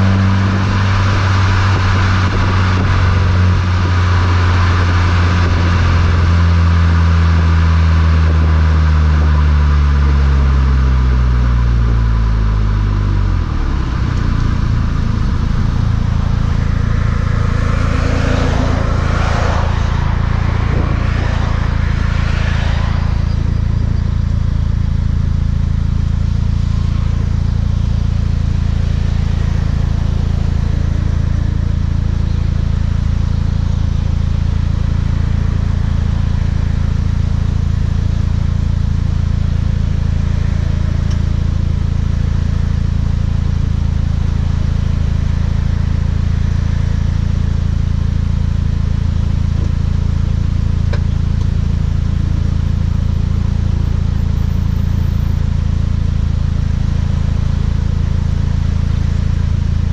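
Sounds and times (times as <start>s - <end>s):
low exhaust drone: 0.0s - 59.9s.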